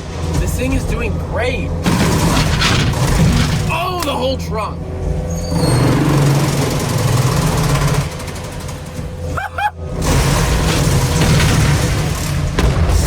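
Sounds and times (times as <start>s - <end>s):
diesel engine under load: 0.0s - 13.0s
crunching metal: 1.8s - 9.4s, 10.0s - 13.0s.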